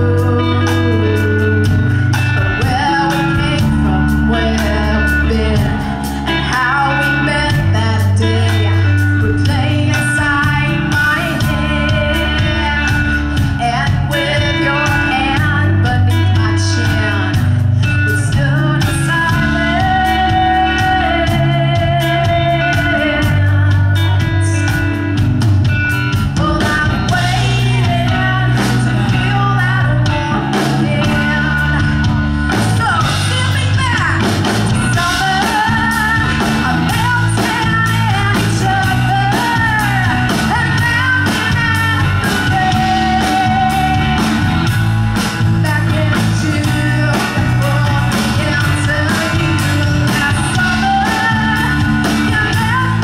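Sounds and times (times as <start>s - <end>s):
woman singing into microphone: 0.0s - 25.3s, 26.1s - 53.0s
rock band playing: 0.0s - 53.0s.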